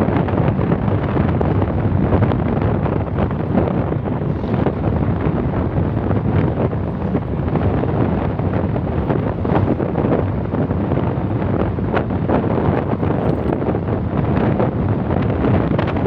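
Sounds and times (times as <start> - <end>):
road and engine noise: 0.0 - 16.0
wind rushing over microphone: 0.0 - 16.0.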